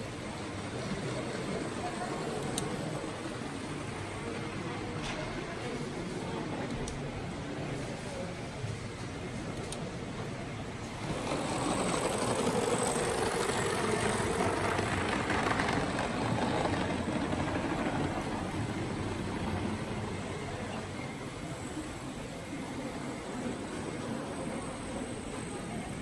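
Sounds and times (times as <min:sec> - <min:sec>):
model train wheels rumbling on rail: 0:00.0 - 0:26.0.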